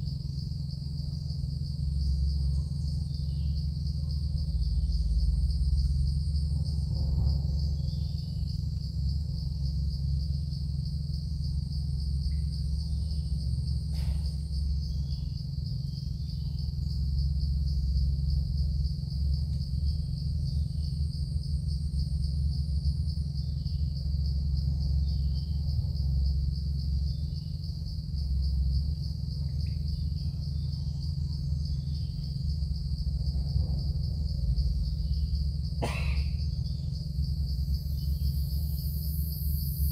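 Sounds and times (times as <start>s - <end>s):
insects trilling: 0.0s - 39.9s
steady low rumble: 0.0s - 39.9s.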